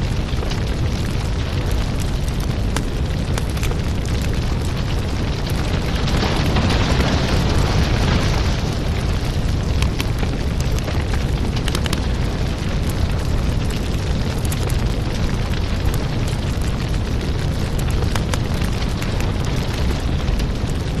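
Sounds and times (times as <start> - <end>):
fire crackling: 0.0 - 21.0
fire rumbling: 0.0 - 21.0.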